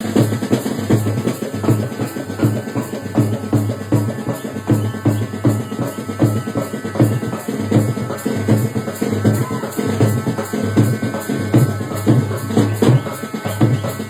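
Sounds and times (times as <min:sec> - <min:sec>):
drums beating steady rhythm: 0:00.0 - 0:14.0
sustained high instrumental tone: 0:00.1 - 0:14.0.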